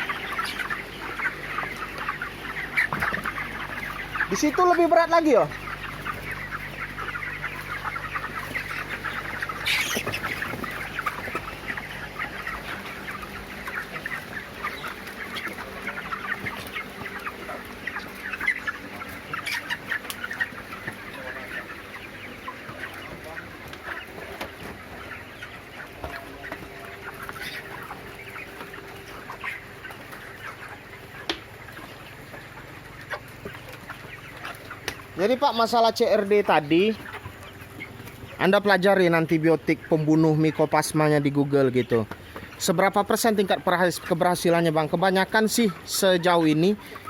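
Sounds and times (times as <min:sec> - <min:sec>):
chickens clucking and chirping: 0:00.0 - 0:47.0.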